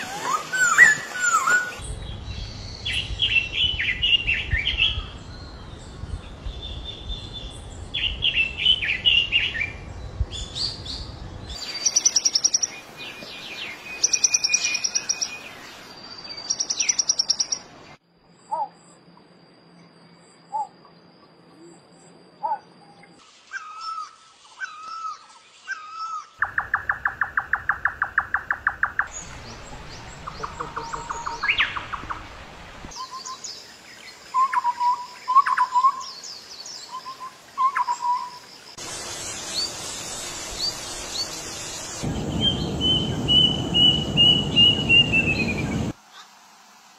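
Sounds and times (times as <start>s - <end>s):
bird chirping: 0.1s - 17.7s, 18.4s - 46.0s.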